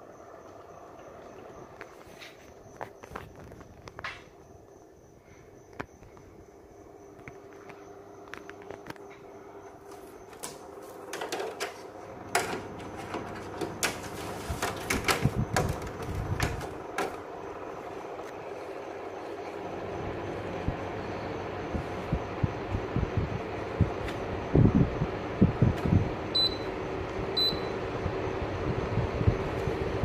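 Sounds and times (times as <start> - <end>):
air conditioner fan hum: 0.0 - 30.0.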